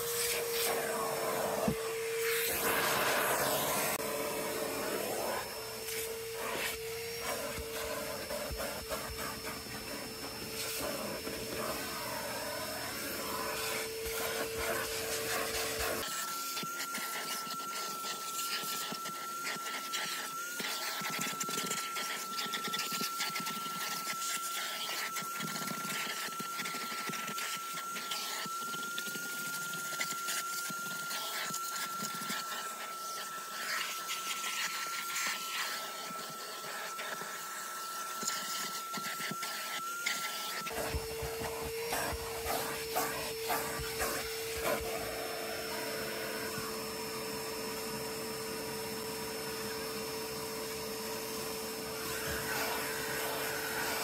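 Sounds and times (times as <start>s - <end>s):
hose sucking over carpet: 0.0s - 54.0s
vacuum cleaner running: 0.0s - 54.0s.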